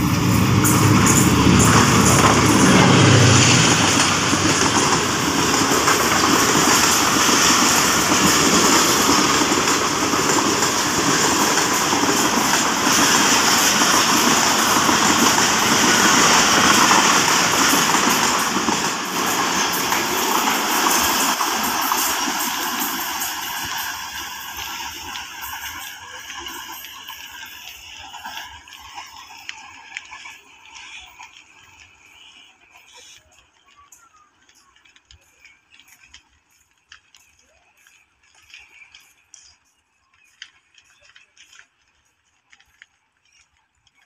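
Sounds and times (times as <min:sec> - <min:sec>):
diesel locomotive engine passing: 0:00.0 - 0:35.8
coach wheels clattering over joints: 0:00.0 - 0:44.0.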